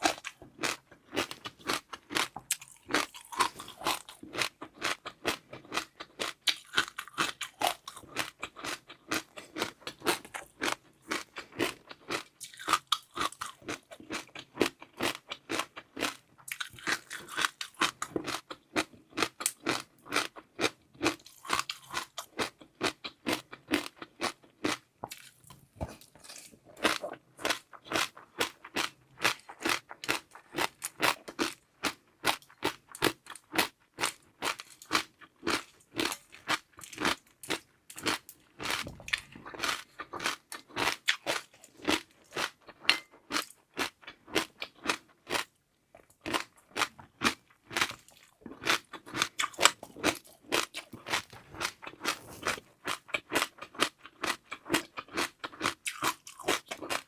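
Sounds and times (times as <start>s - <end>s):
crisp chewing crunches: 0.0s - 57.0s.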